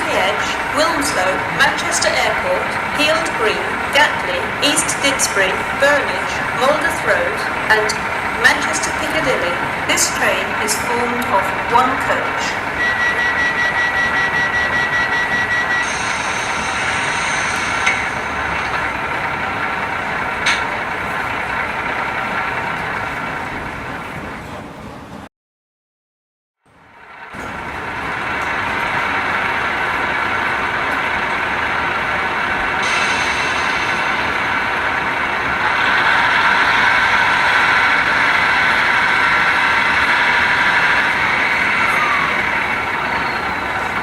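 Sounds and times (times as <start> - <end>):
diesel railcar engine idling: 0.0 - 25.1, 26.7 - 44.0.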